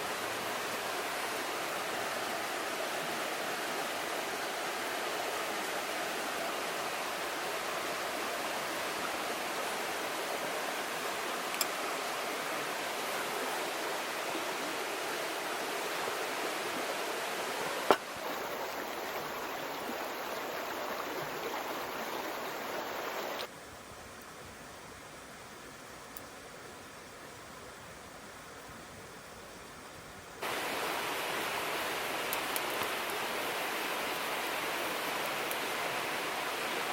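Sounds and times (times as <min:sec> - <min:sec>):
river water rushing: 0:00.0 - 0:23.5, 0:30.4 - 0:36.9.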